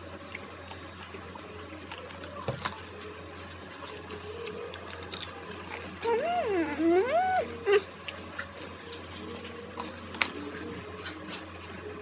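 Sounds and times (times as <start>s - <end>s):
chewing: 1.8s - 12.0s.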